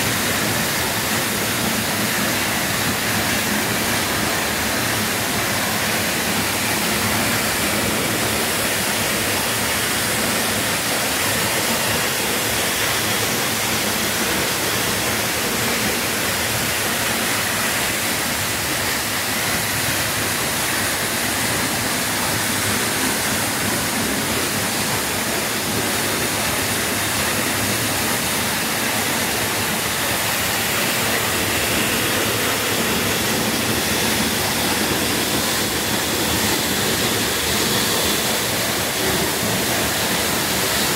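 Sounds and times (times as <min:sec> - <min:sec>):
waterfall rushing onto rocks: 0:00.0 - 0:40.9.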